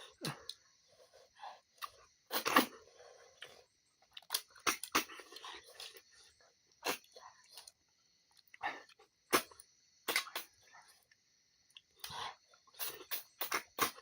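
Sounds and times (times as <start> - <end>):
wet sucking and chewing: 0.2 - 14.0.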